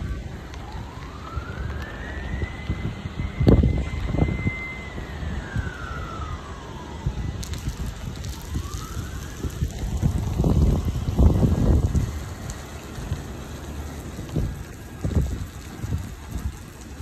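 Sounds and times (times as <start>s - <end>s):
fire truck siren wailing: 0.0s - 17.0s
rain: 0.0s - 17.0s
wind buffeting microphone: 0.0s - 17.0s.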